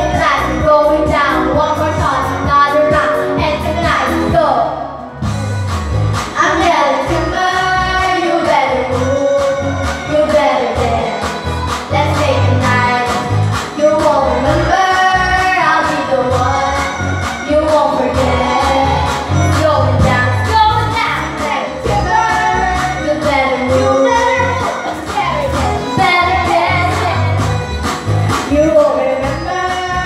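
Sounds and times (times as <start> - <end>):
girls singing karaoke: 0.0 - 4.8, 6.1 - 30.0
backing track with beat and bass: 0.0 - 30.0.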